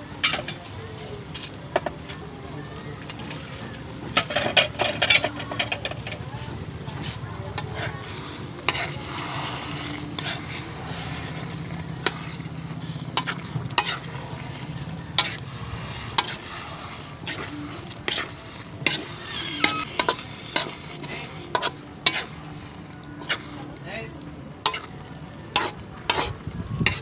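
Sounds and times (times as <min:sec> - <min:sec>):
metal spatula scraping wok: 0:00.0 - 0:02.4, 0:03.0 - 0:23.7, 0:24.6 - 0:27.0.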